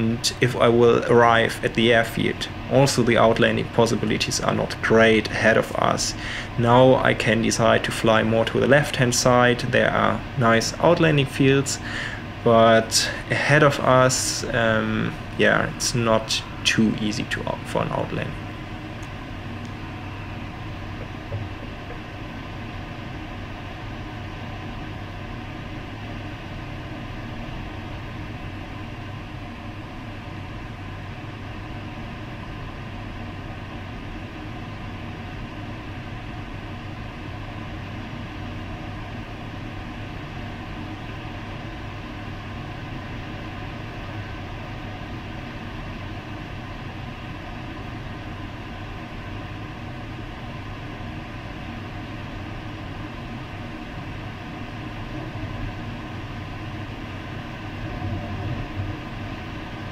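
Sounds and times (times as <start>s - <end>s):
airflow rushing around cockpit: 0.0s - 59.9s.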